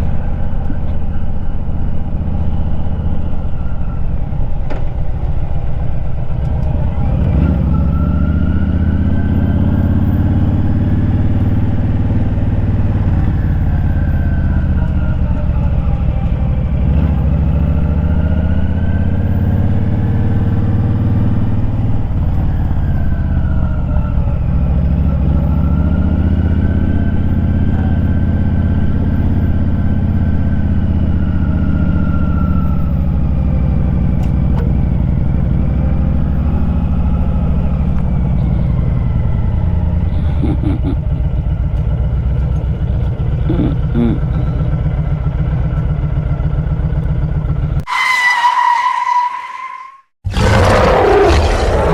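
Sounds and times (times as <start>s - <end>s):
motorcycle engine revving: 0.0s - 49.1s, 50.2s - 51.9s.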